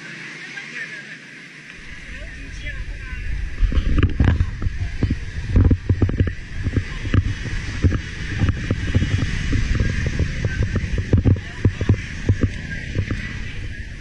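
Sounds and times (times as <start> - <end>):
motor scooter traffic: 0.0 - 14.0
wind buffeting microphone: 1.7 - 14.0.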